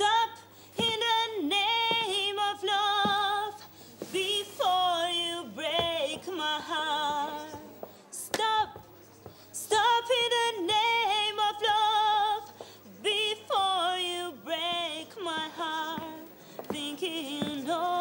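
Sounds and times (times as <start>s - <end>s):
woman singing unaccompanied: 0.0s - 7.6s, 9.6s - 18.0s.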